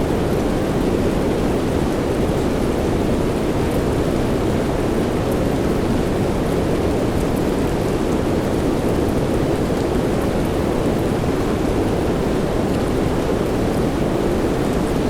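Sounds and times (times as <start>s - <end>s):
steady soft rain: 0.0s - 15.0s.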